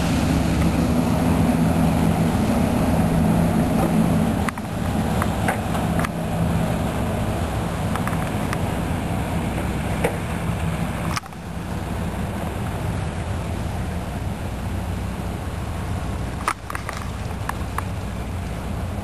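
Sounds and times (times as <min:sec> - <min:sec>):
propeller engine idling: 0:00.0 - 0:19.0.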